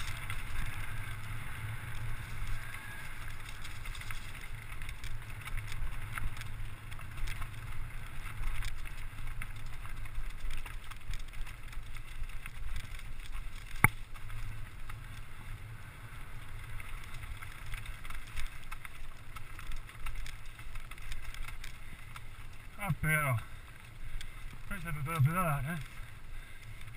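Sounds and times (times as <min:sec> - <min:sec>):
bike rattling with clicks: 0:00.0 - 0:26.9
tyres crunching over ground: 0:00.0 - 0:26.9
wind rumbling on microphone: 0:00.0 - 0:26.9.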